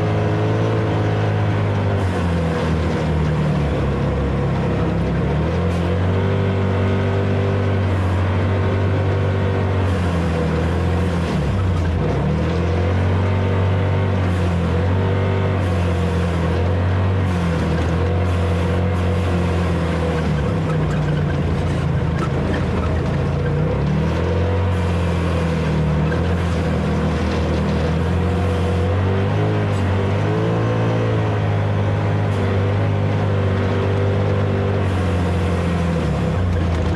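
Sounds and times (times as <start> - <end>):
vehicle engine revving: 0.0 - 36.9.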